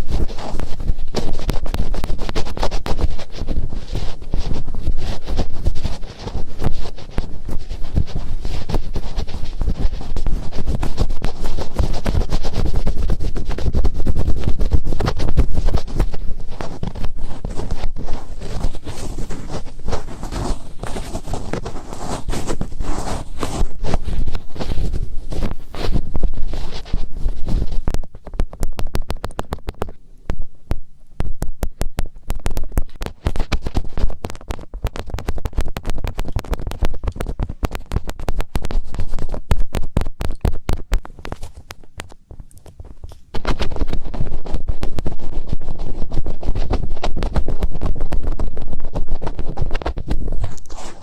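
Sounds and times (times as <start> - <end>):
fingertips scratching on microphone: 0.0 - 51.0.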